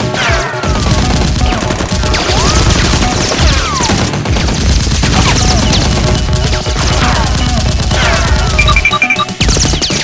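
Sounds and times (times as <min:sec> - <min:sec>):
background music: 0:00.0 - 0:10.0
rapid automatic gunfire: 0:00.7 - 0:10.0.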